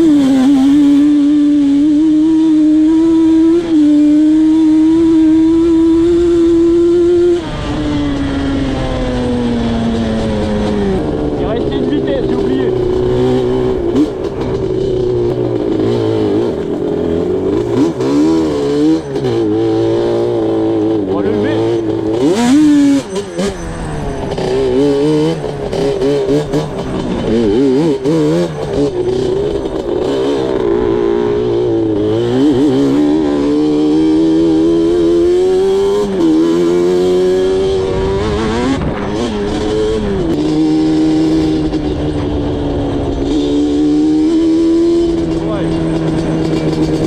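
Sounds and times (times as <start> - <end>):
quad engine revving: 0.0 - 47.0.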